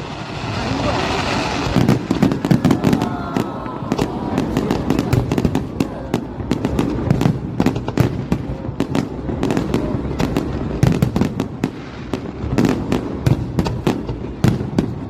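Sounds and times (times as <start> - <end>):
fireworks cracking and banging: 0.0 - 15.0.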